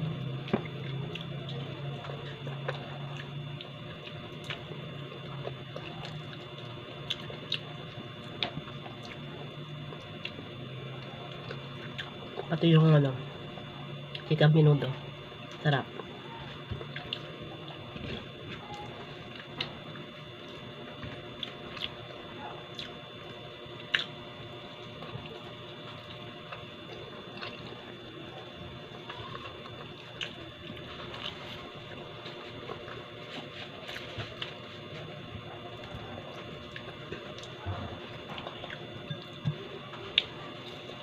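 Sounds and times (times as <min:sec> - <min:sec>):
person chewing food: 0:00.0 - 0:12.6, 0:15.4 - 0:41.0
faint steady hum: 0:00.0 - 0:41.0.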